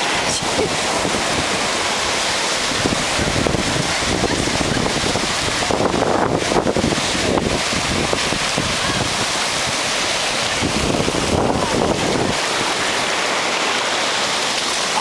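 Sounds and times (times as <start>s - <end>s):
wind on microphone: 0.0s - 13.6s
surf washing on beach: 0.0s - 15.0s.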